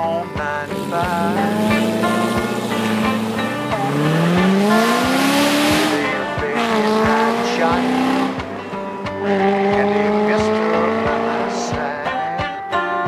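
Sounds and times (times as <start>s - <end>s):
music with a steady beat: 0.0s - 13.0s
car engine accelerating hard: 0.4s - 12.1s.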